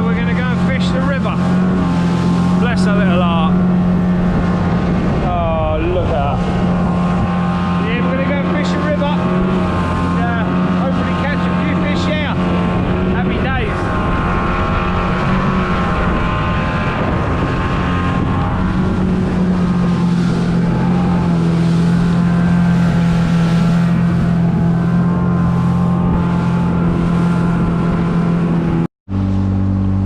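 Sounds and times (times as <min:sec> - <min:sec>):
boat motor droning: 0:00.0 - 0:30.0
wind buffeting microphone: 0:00.0 - 0:30.0.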